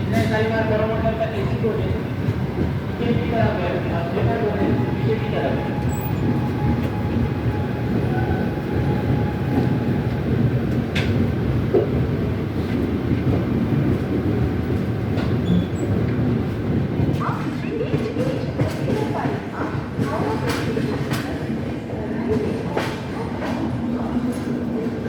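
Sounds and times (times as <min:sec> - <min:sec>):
train coaches rumbling on track: 0:00.0 - 0:25.0.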